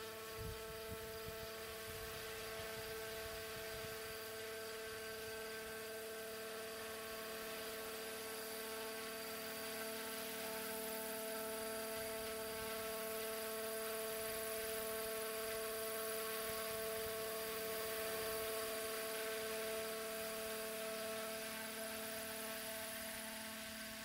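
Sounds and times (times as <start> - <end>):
rc helicopter whining hum: 0.0 - 24.0.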